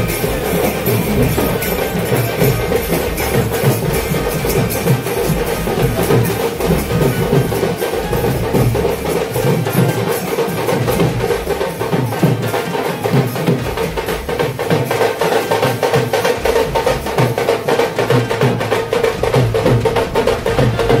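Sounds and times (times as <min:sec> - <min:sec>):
fast dense drumming: 0:00.0 - 0:21.0.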